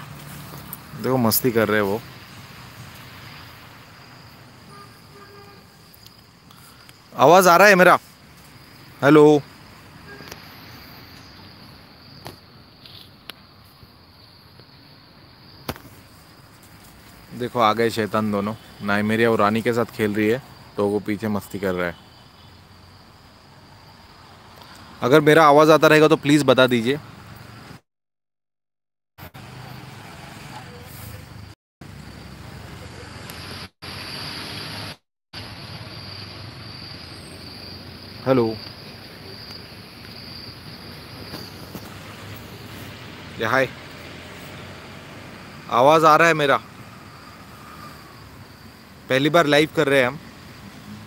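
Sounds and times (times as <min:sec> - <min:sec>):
crickets chirring: 0:00.0 - 0:27.6, 0:30.6 - 0:51.0.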